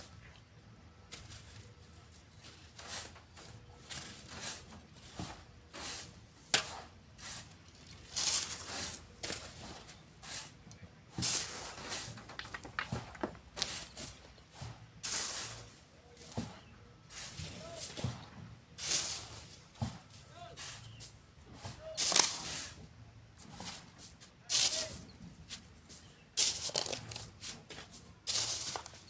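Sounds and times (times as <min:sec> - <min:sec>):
shovels scooping sand: 0:01.0 - 0:29.0.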